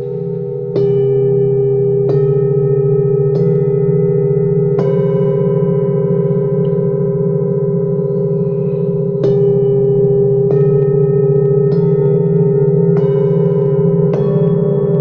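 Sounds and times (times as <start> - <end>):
low wavering hum: 0.0 - 15.0
singing bowls ringing: 0.0 - 15.0.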